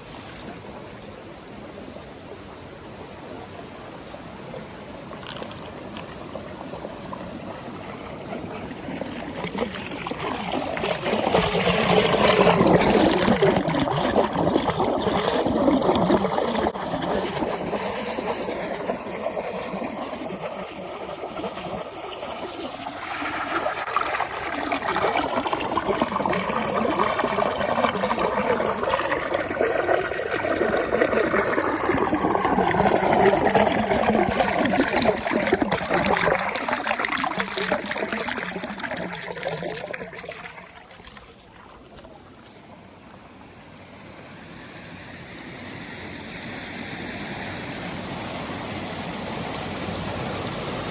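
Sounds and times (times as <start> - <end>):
water trickling and gurgling: 0.0 - 50.9.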